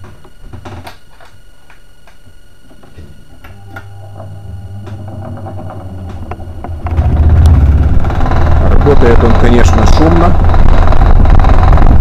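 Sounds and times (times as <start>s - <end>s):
desk fan motor hum: 0.0s - 12.0s.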